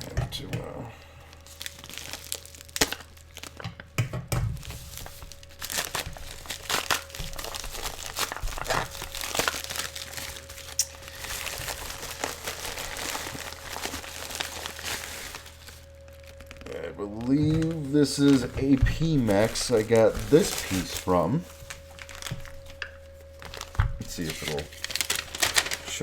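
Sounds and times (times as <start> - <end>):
packaging crinkling and tearing: 1.2 - 4.0, 4.6 - 26.0.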